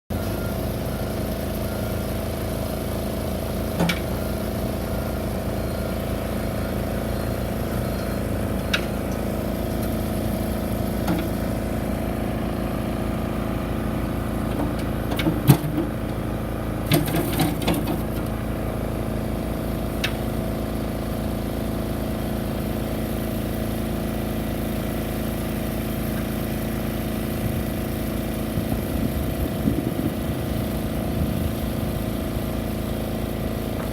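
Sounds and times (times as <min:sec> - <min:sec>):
excavator diesel engine idling: 0:00.1 - 0:33.9.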